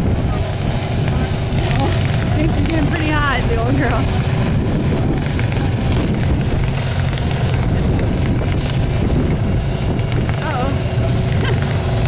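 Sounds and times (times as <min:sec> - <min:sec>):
car engines rumbling roughly: 0:00.0 - 0:12.0.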